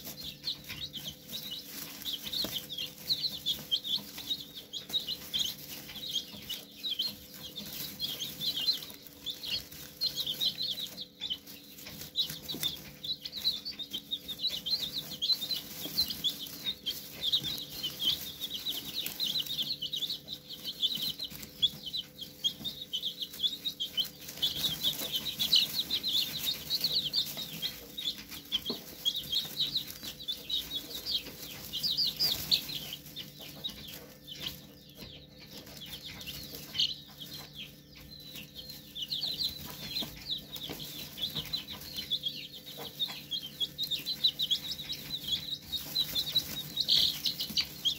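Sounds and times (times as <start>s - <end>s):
chicks peeping: 0.0s - 47.9s.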